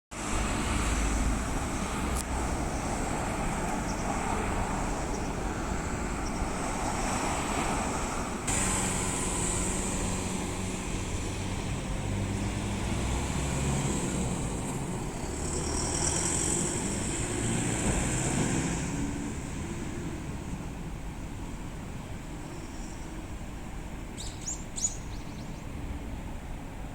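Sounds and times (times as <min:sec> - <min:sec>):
bus engine and tyre noise: 0:00.1 - 0:26.9.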